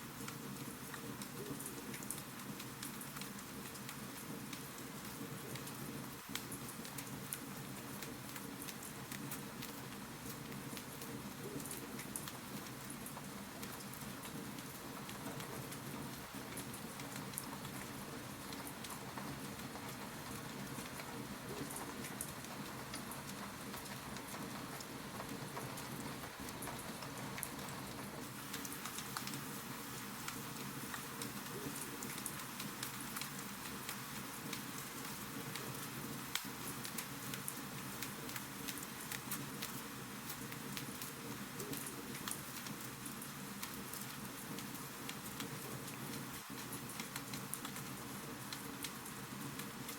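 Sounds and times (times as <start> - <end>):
wood fire crackling: 0.2 - 49.9.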